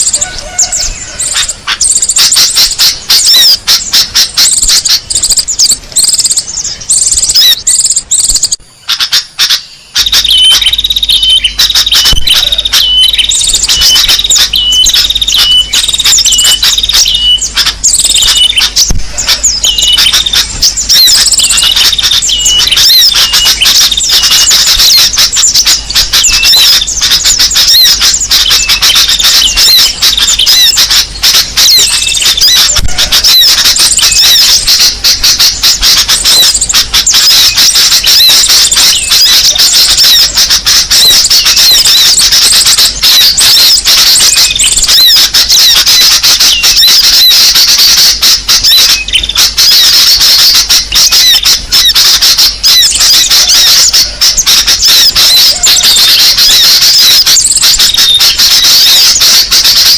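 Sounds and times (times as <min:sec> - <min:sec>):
songbirds chirping chorus: 0:00.0 - 0:59.6.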